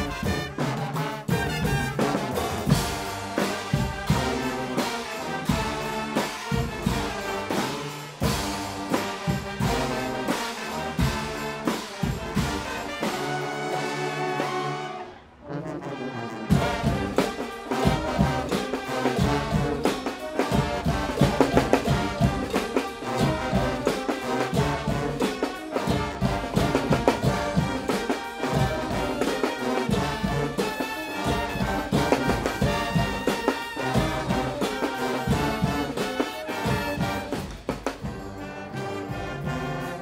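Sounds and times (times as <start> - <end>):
driving drum beat: 0.0 - 14.9, 16.4 - 40.0
brass band playing loudly: 0.0 - 40.0.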